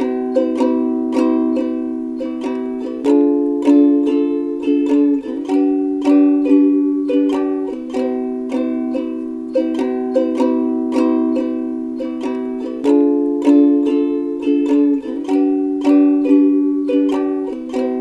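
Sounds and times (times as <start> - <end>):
plucked string instrument music: 0.0 - 18.0.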